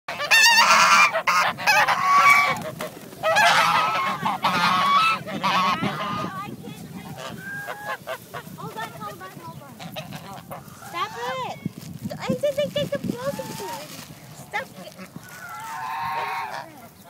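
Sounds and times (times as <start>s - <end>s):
geese honking: 0.1s - 11.6s, 14.4s - 17.0s.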